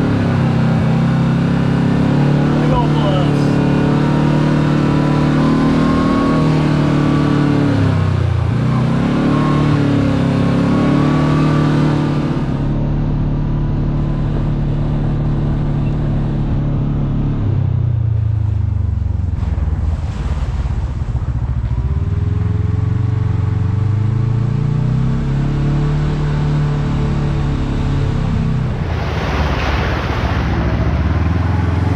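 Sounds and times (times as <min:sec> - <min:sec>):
utility vehicle engine running: 0:00.0 - 0:31.9.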